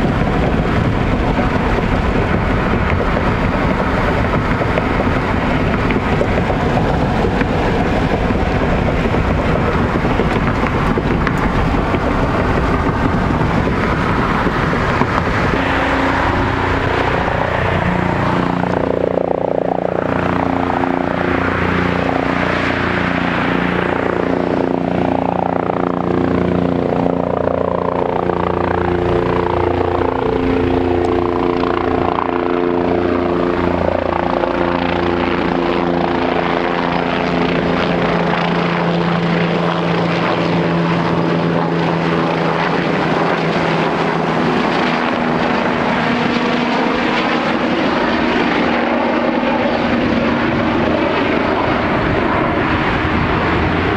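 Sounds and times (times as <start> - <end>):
helicopter flying overhead: 0.0 - 53.9.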